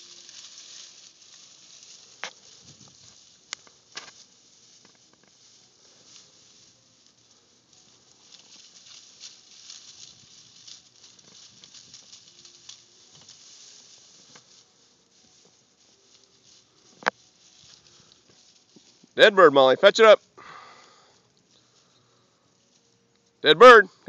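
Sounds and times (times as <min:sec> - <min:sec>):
rustling of dry grass and brush: 0:00.0 - 0:24.0.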